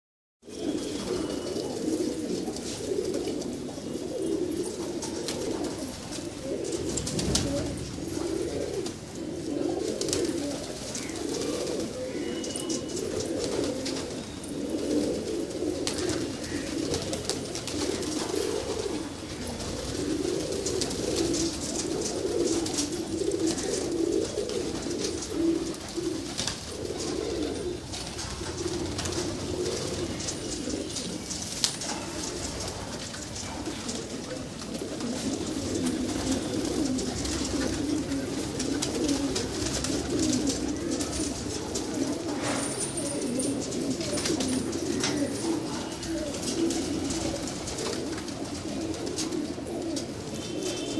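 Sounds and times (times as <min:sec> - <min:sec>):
pigeons cooing: 0:00.4 - 0:50.9.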